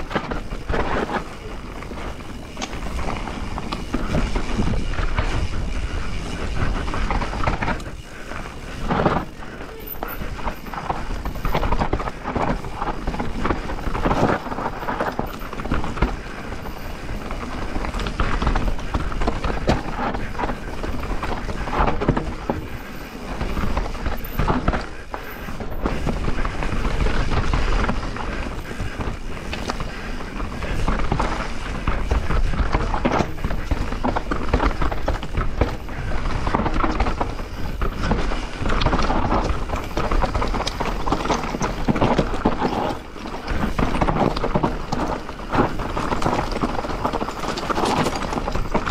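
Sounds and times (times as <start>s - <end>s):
bike chain and frame clattering: 0.0s - 48.9s
bike tyres on loose dirt: 0.0s - 48.9s.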